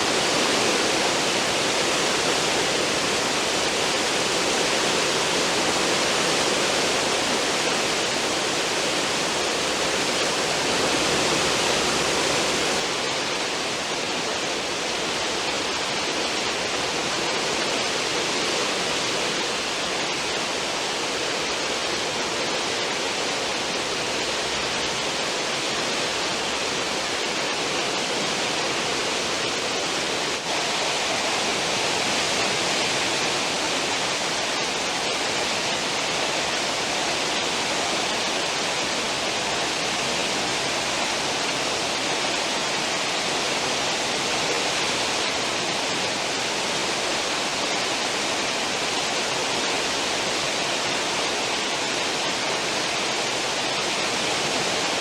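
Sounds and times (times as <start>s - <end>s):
churning water rushing: 0.0s - 55.0s.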